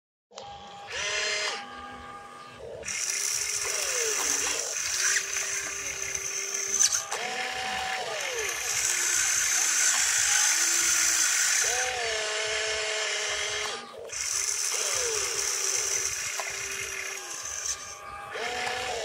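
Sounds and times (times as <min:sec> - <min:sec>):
electric motors whining: 0:00.3 - 0:19.0.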